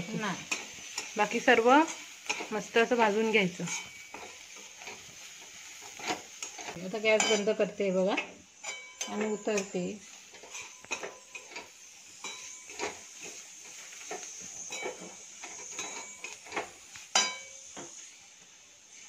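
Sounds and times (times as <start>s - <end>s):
spatula scraping a metal pan: 0.1s - 7.6s, 8.2s - 17.9s.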